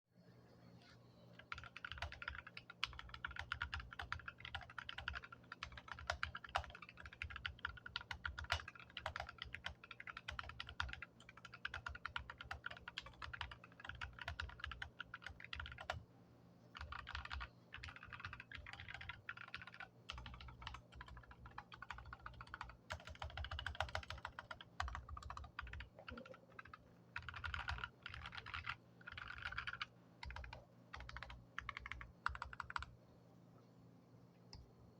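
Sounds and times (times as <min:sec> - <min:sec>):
mechanical keyboard typing: 0:01.4 - 0:16.0, 0:16.8 - 0:32.9.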